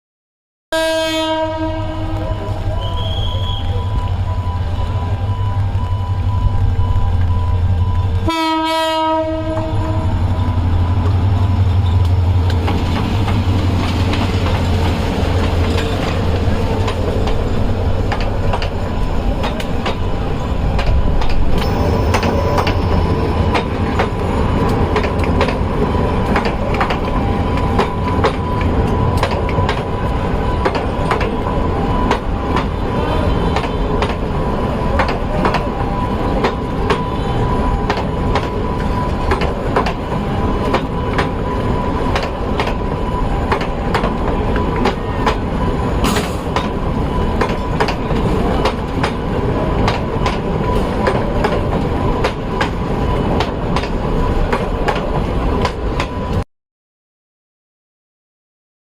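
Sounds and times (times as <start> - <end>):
train rumble: 0.8 - 56.4.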